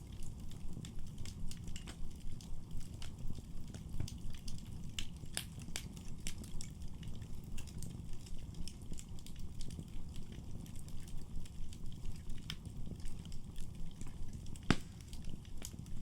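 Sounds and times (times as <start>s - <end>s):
low rumble of burning: 0.0s - 16.0s
wood fire snaps and pops: 0.0s - 16.0s.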